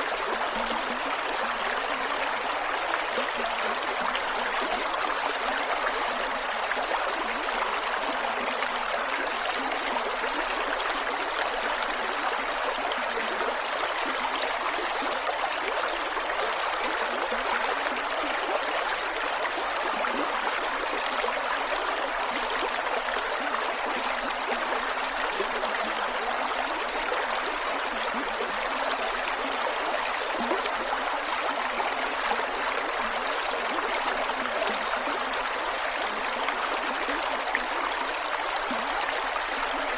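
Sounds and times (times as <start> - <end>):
creek water gurgling over rocks: 0.0 - 39.9.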